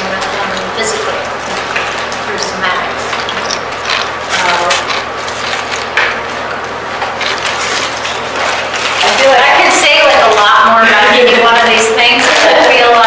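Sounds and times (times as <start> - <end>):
bags and paper rustling: 0.0 - 13.0
plastic bottles crinkling: 0.0 - 13.0.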